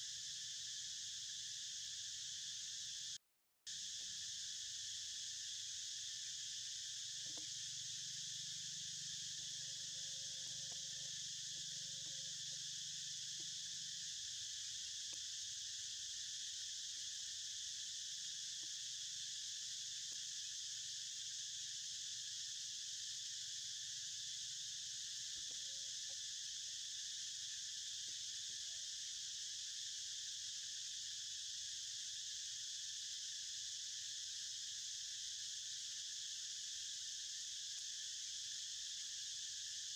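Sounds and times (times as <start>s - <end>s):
insects chorus drone: 0.0s - 39.9s.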